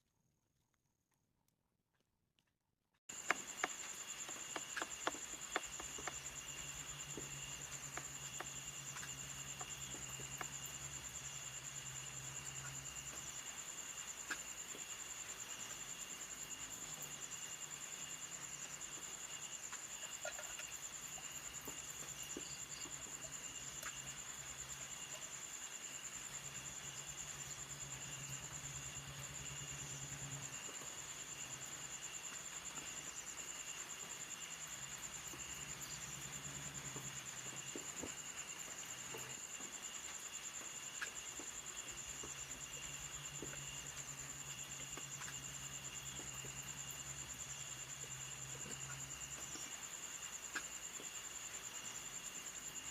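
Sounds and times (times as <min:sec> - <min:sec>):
insects trilling high and steady: 0:03.1 - 0:52.9
lower insect chirping: 0:03.1 - 0:52.9.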